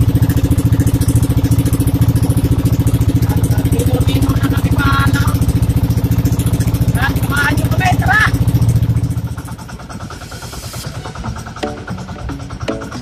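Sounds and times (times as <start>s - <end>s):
boat engine puttering: 0.0s - 13.0s.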